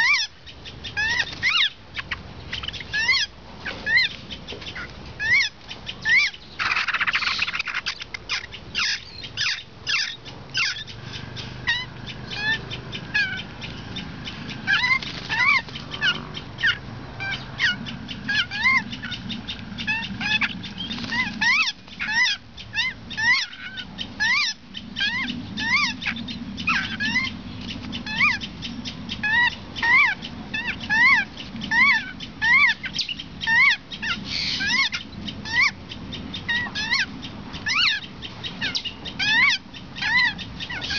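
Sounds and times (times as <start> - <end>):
bird chicks squeaky calls: 0.0 - 40.9.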